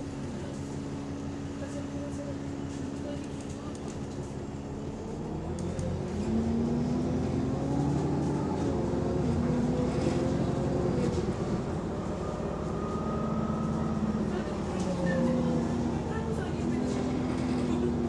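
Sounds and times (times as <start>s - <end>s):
bus diesel engine: 0.0s - 18.0s.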